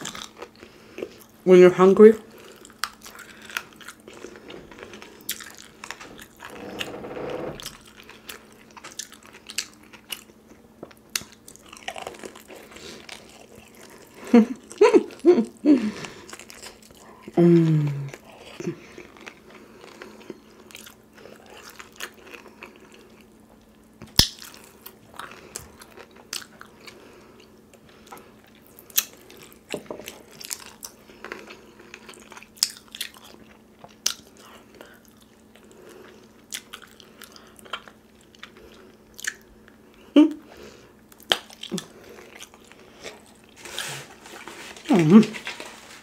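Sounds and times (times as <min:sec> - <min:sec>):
person chewing food: 0:00.0 - 0:01.4, 0:02.3 - 0:46.0
faint steady hum: 0:00.0 - 0:46.0.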